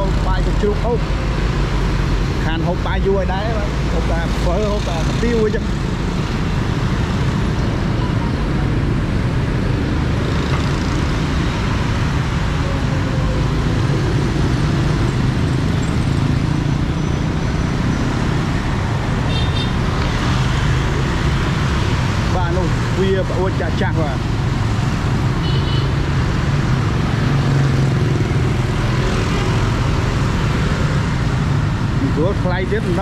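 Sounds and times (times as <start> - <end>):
motorbikes and cars passing: 0.0 - 33.0.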